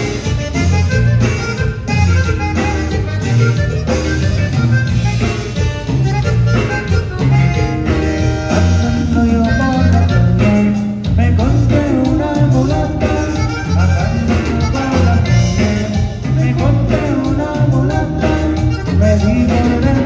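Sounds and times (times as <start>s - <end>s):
bass guitar line: 0.0s - 20.0s
button accordion melody: 0.0s - 20.0s
guitar: 0.0s - 20.0s
steady drum beat: 0.0s - 20.0s.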